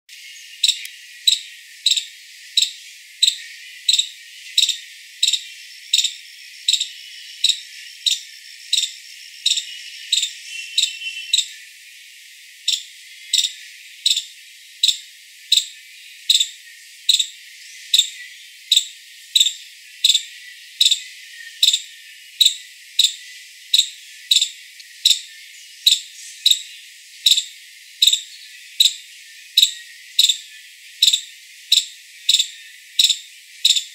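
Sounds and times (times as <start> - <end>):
squirrel chirping: 0.4 - 11.7, 12.6 - 33.9.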